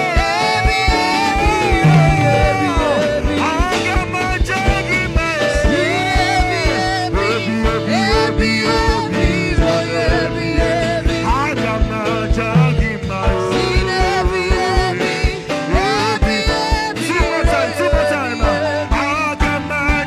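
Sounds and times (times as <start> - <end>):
kick drum beat: 0.0 - 20.0
live band playing upbeat groove: 0.0 - 20.0.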